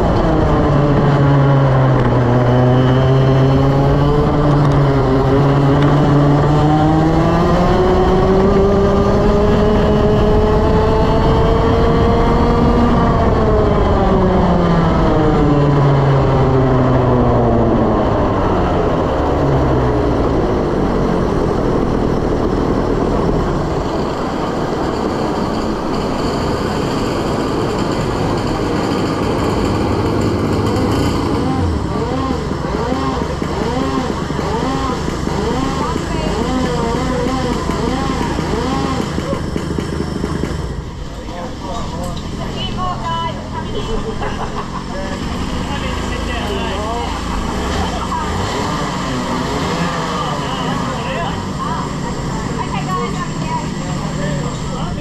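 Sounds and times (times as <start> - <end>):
kart engine accelerating: 0.0 - 55.0.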